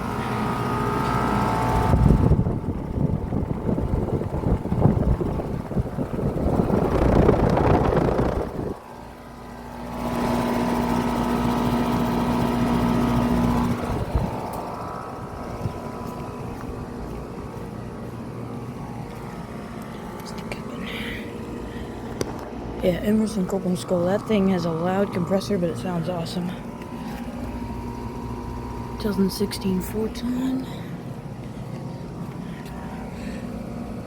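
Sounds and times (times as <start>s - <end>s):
compressor hum: 0.0s - 34.0s
condenser fan air rushing: 0.0s - 34.0s
steady hum with clear tone: 0.0s - 34.0s.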